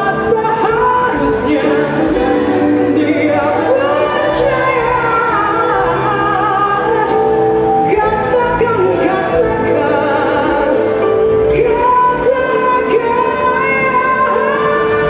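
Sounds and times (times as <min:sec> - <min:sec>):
drums: 0:00.0 - 0:15.0
woman singing into a microphone: 0:00.0 - 0:15.0.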